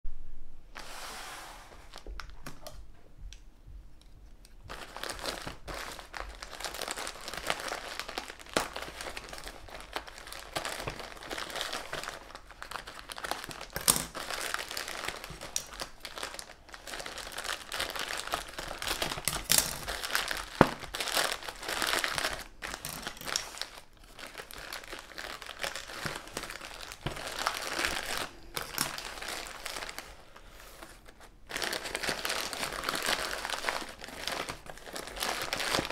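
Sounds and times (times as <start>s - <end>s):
plastic packaging crinkling: 4.5s - 35.9s
plastic tearing: 4.7s - 35.9s.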